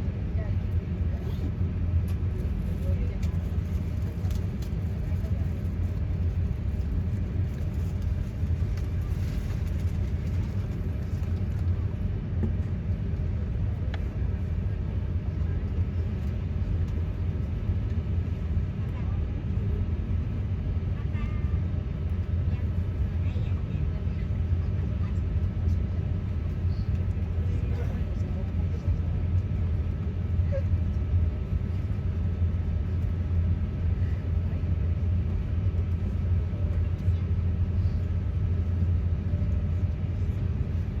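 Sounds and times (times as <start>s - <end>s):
airplane cabin rumble: 0.0s - 41.0s.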